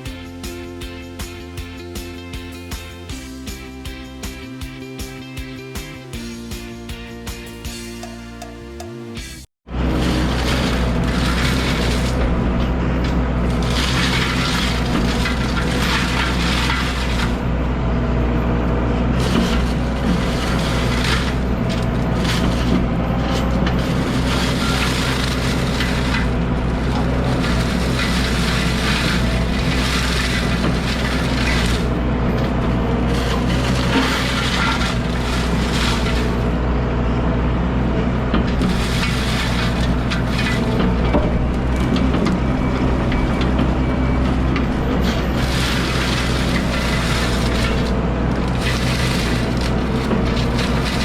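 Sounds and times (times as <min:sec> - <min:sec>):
excavator engine running: 0:00.0 - 0:51.0
mulching head grinding brush: 0:09.7 - 0:51.0.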